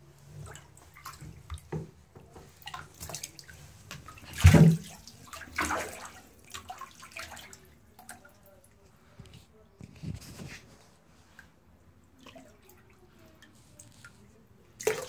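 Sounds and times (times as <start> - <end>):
water splashing in a bathtub: 0.0 - 15.0.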